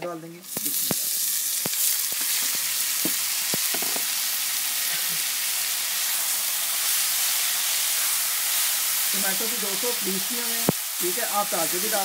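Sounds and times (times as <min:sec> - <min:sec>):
tomatoes sizzling in hot fat: 0:00.2 - 0:12.0.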